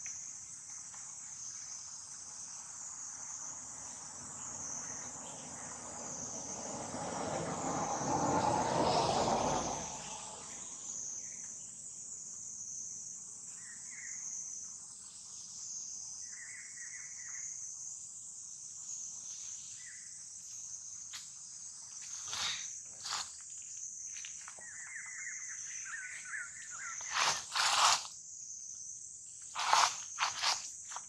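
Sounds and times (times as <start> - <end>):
insect chirps: 0.0 - 31.0
insect chorus drone: 0.0 - 31.0.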